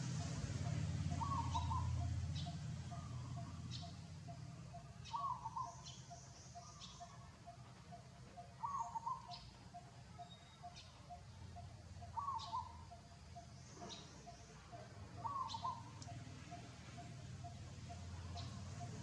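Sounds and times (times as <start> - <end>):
bird calling phrase: 0.0 - 19.0.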